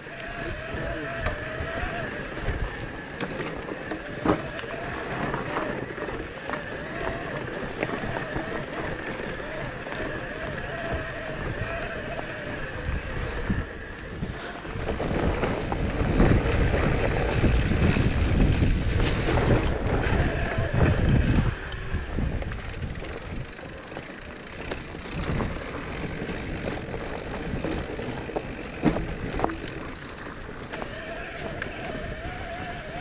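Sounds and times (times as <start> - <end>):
bike rattling: 0.0 - 33.0
bike tyres rolling over rough trail: 0.0 - 33.0
wind buffeting microphone: 0.0 - 33.0.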